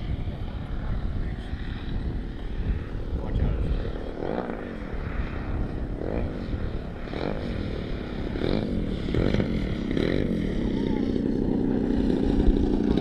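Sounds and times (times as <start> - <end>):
model plane engine: 0.0 - 13.0
wind rumble on microphone: 0.0 - 13.0.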